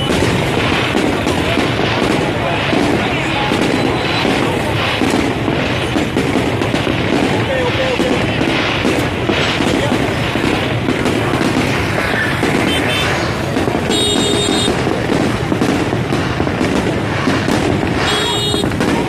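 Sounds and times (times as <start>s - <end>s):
fireworks bangs and crackles: 0.0s - 19.0s
fireworks whistling: 0.0s - 19.0s.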